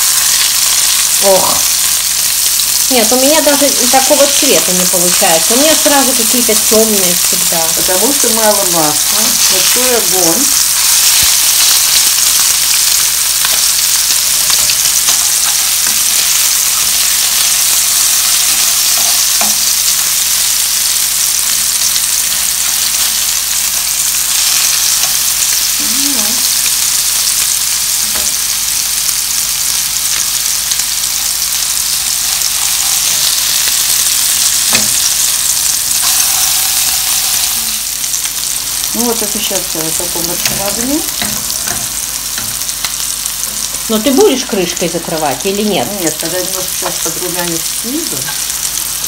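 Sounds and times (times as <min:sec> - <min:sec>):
patties sizzling in oil: 0:00.0 - 0:49.0.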